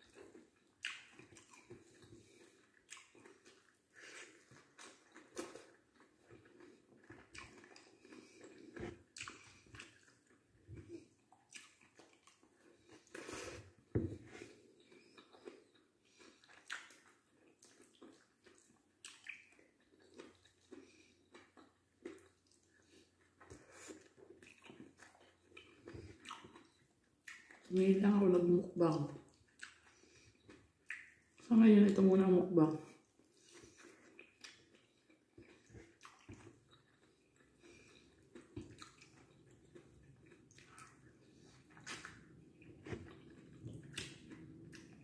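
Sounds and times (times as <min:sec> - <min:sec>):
person chewing food: 0:00.0 - 0:27.8, 0:28.9 - 0:31.5, 0:32.9 - 0:45.0.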